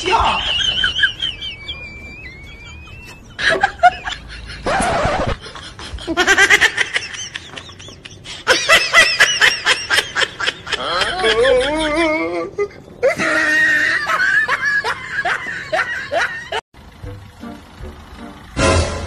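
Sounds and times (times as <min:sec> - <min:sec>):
person laughing hard: 0:00.1 - 0:16.6.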